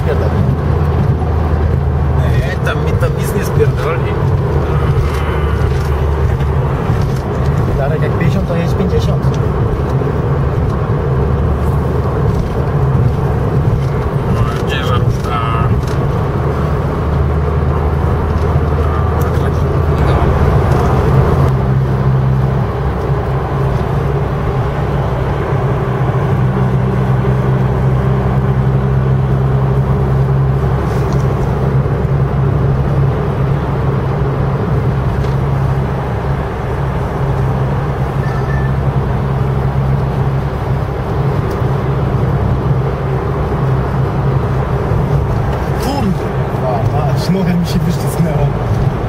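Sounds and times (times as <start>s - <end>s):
car engine drone: 0.0s - 49.0s
tyre and road noise: 0.0s - 49.0s.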